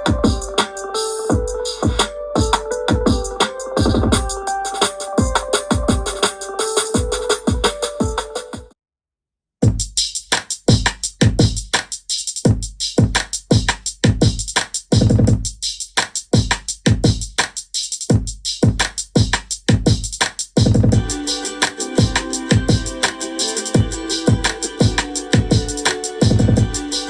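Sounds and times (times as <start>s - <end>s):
drum machine music on a speaker: 0.0s - 8.8s, 9.6s - 27.0s.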